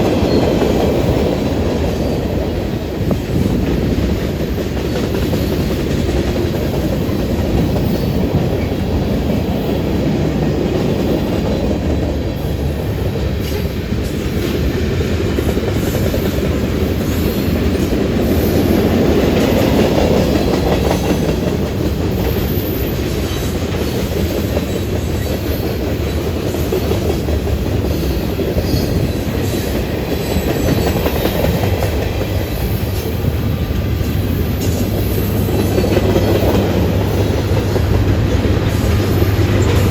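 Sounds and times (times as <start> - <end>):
wheels clicking over rail joints: 0.0 - 39.9.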